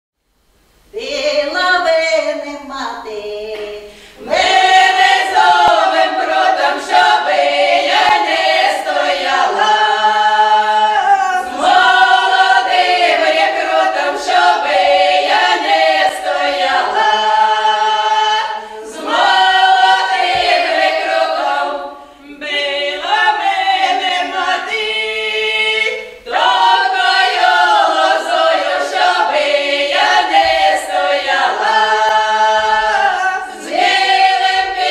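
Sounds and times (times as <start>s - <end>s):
women's choir singing a cappella: 0.9s - 34.9s.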